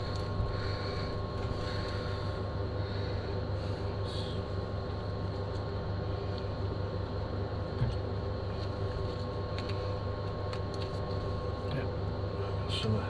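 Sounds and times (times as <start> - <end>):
faint steady whine: 0.0 - 13.0
motor humming: 0.0 - 13.0.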